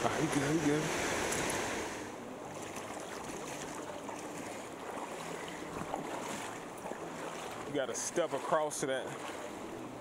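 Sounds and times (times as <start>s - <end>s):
creek water running over rocks: 0.2s - 9.6s
legs wading through water: 1.3s - 10.0s.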